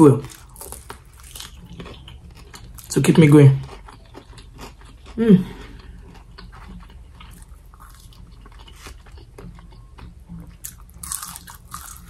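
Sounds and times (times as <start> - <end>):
biting and chewing crunchy food: 0.0 - 12.0.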